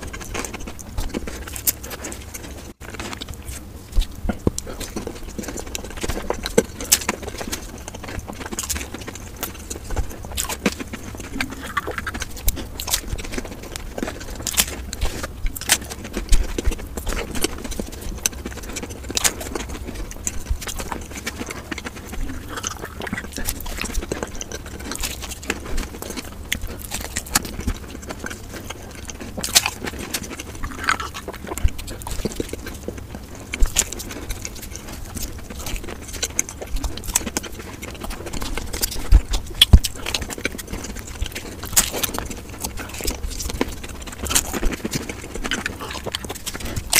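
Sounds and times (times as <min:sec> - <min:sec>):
crisp chewing crunches: 0:00.0 - 0:46.9.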